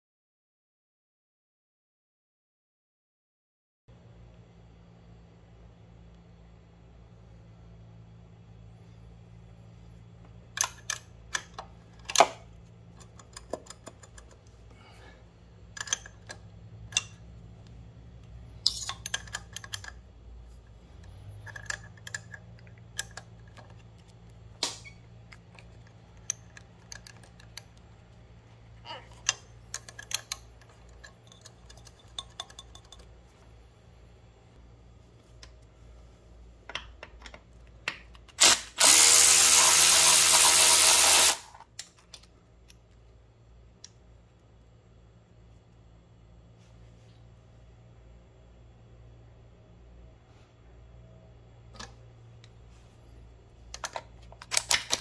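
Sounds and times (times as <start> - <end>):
faint low hum: 3.9 - 38.9, 41.4 - 55.0.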